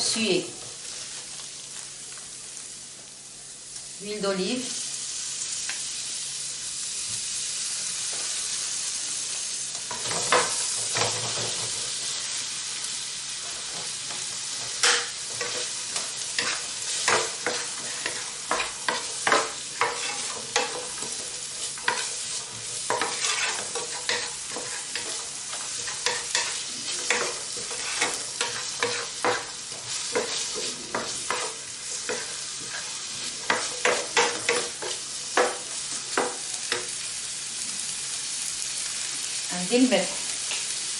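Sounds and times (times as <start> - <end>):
onions sizzling in a pan: 0.0 - 40.9.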